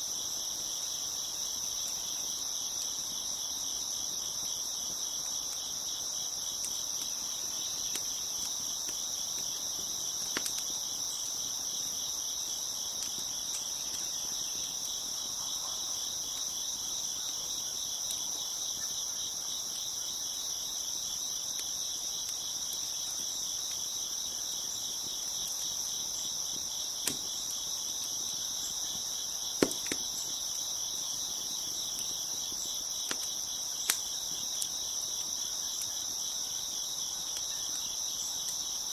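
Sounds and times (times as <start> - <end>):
crickets chirping: 0.0 - 38.9
wood fire crackling: 0.0 - 38.9.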